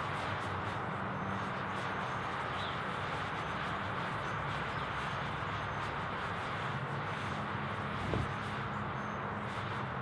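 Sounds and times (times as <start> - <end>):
soft hiss of burning chemical: 0.0 - 10.0.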